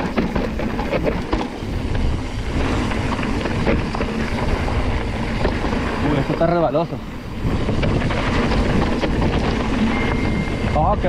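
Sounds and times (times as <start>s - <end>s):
bike clicks and rattles: 0.0s - 11.0s
tyres rumbling on dirt: 0.0s - 11.0s
wind on microphone: 0.0s - 11.0s.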